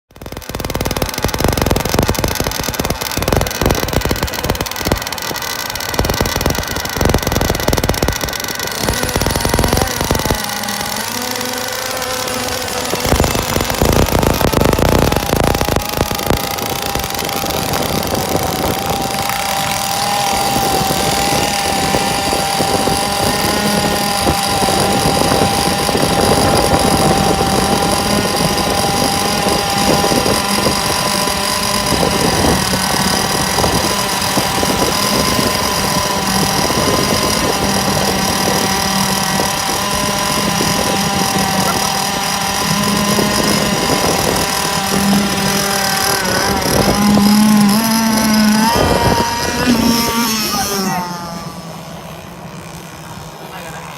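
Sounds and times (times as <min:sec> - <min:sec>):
small two-stroke engine running: 0:00.0 - 0:53.9.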